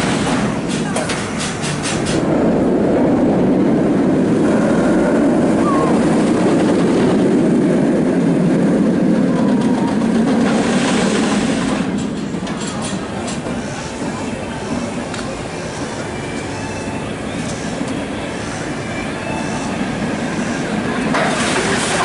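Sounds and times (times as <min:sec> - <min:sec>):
roller coaster rumbling on track: 0:00.0 - 0:22.0.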